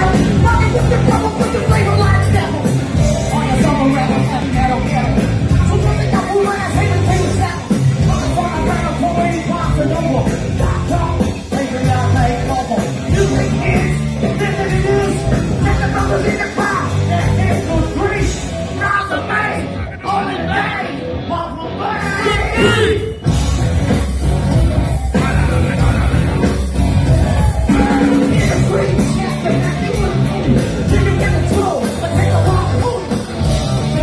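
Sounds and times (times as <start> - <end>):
driving drum beat: 0.0 - 19.1, 22.3 - 34.0
person rapping: 0.0 - 23.0, 27.7 - 33.2
bass guitar: 0.0 - 34.0
electric guitar: 0.0 - 34.0
live rock band through loudspeakers: 0.0 - 34.0.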